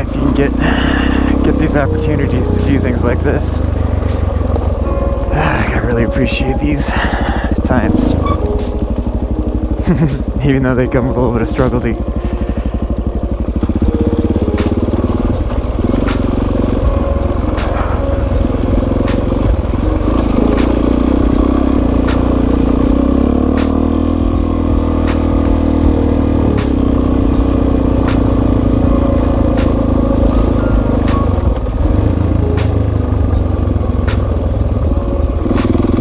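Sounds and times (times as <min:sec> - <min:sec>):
motorcycle engine running: 0:01.1 - 0:04.9, 0:07.6 - 0:36.0.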